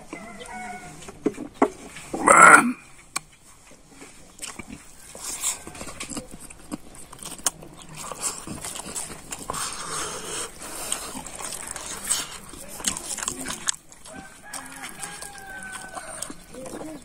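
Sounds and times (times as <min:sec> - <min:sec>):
man chewing: 0:01.8 - 0:17.0.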